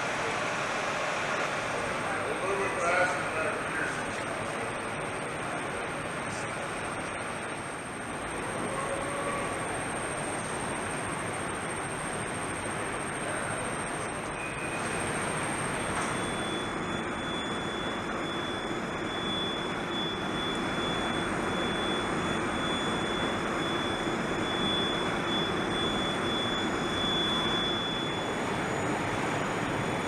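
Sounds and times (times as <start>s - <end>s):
jet engine rushing with whine: 0.0s - 30.0s.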